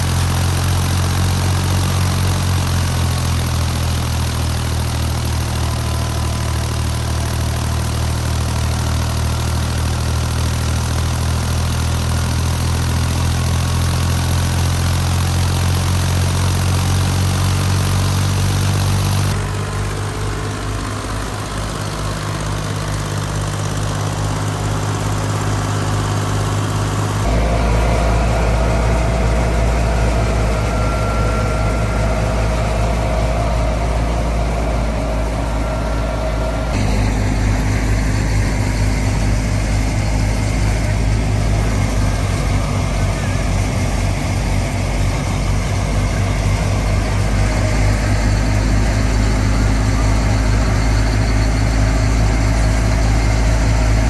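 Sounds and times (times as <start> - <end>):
tractor diesel engine drone: 0.0 - 54.0.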